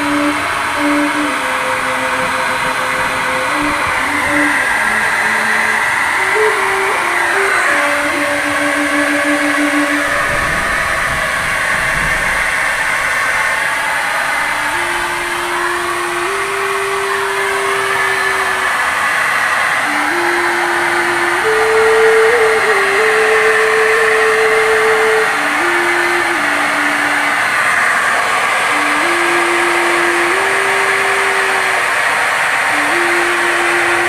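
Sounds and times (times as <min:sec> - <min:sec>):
paint spray gun motor: 0:00.0 - 0:34.0.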